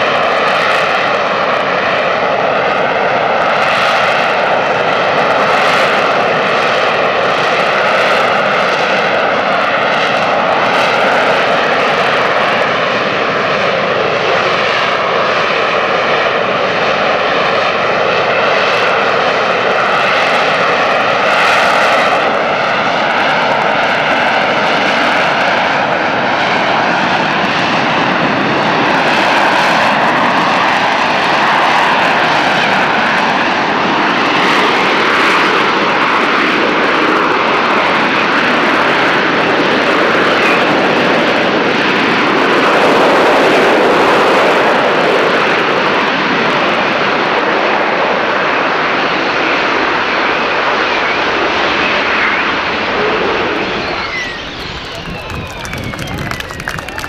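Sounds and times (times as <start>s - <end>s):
jet engine running with whine: 0.0s - 57.0s.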